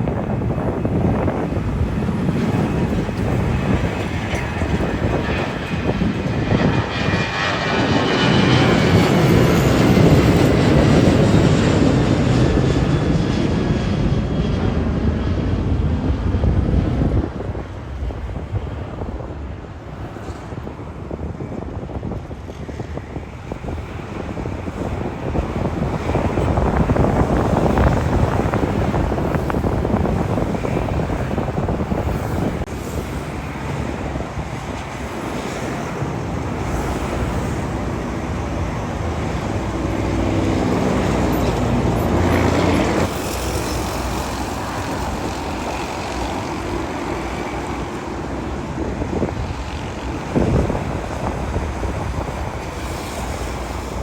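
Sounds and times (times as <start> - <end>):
jet airliner engines rumbling: 0.0 - 54.0
wind buffeting microphone: 0.0 - 54.0.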